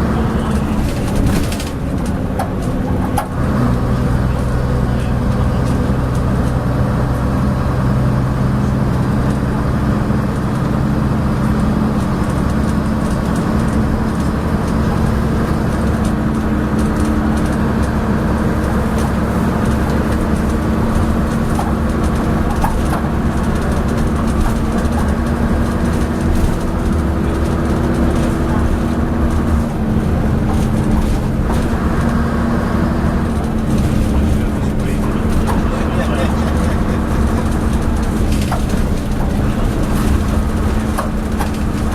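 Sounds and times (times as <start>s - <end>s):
bus clanking and rattling: 0.0s - 41.9s
bus diesel engine: 0.0s - 41.9s.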